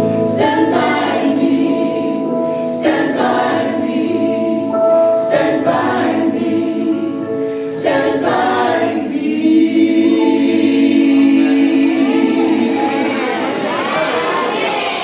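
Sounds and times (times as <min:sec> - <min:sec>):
group of voices harmonizing: 0:00.1 - 0:15.0.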